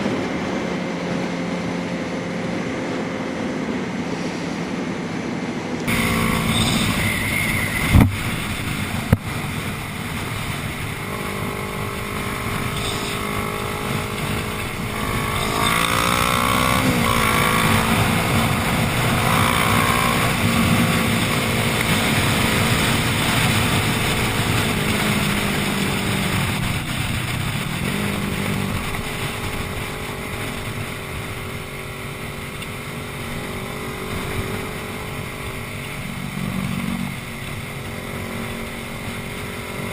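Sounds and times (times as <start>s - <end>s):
wind noise: 0.0s - 39.9s
motorcycle engine running: 5.8s - 39.9s.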